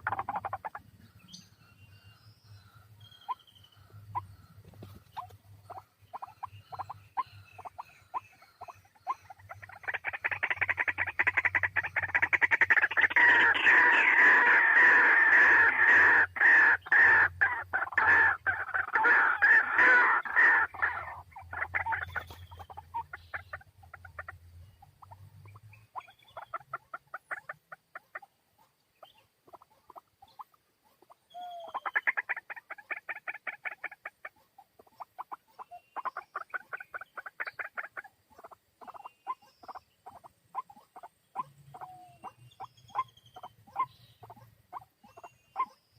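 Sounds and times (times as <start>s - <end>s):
waterhen calling: 0.0s - 1.4s, 3.0s - 45.9s.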